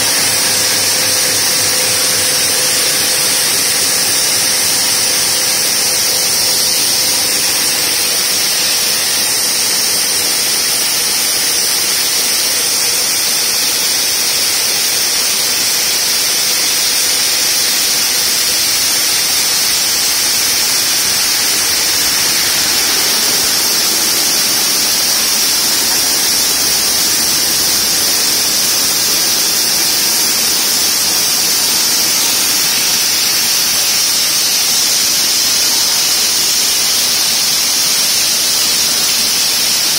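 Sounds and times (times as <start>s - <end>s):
circular saw cutting stone: 0.0s - 39.9s.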